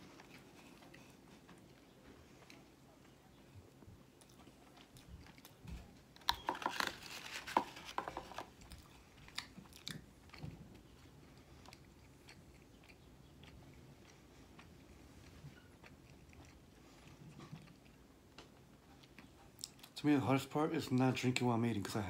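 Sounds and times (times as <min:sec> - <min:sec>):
biting and chewing: 0:00.0 - 0:20.0.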